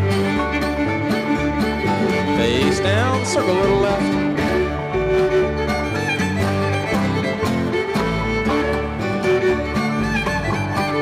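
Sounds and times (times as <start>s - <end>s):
banjo: 0.0s - 11.0s
fiddle lead: 0.0s - 11.0s
strummed acoustic guitar: 0.0s - 11.0s
upright bass: 0.0s - 11.0s.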